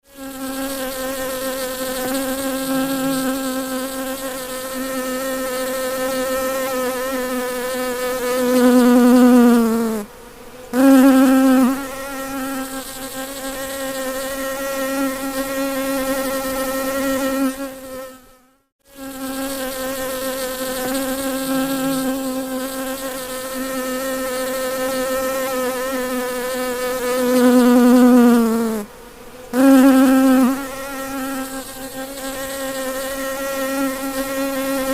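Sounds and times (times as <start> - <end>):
bumblebee buzzing: 0.1 - 34.9.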